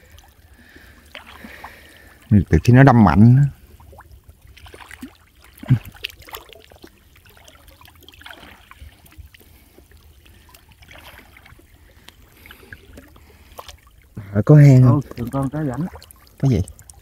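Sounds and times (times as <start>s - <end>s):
net streaming water: 0.0s - 17.0s
water sloshing and trickling: 0.0s - 17.0s.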